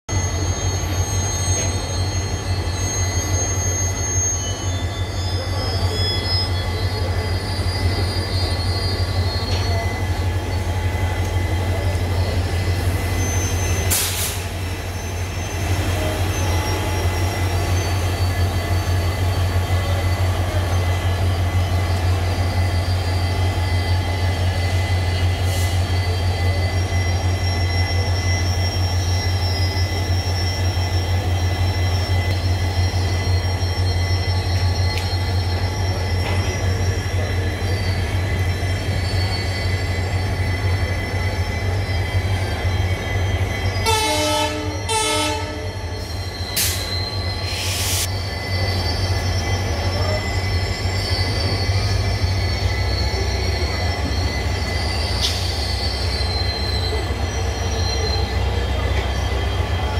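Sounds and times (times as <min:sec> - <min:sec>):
standing train humming: 0:00.1 - 0:59.9.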